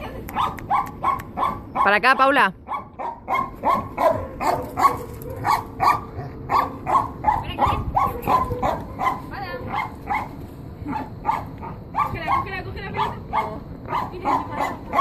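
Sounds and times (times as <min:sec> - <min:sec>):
dog barking: 0:00.3 - 0:15.0
dog yelping: 0:00.3 - 0:15.0.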